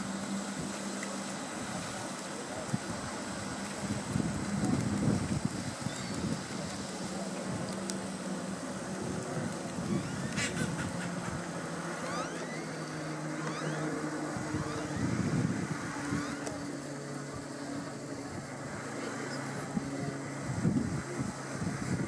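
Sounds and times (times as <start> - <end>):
motor engine humming: 0.0 - 22.0.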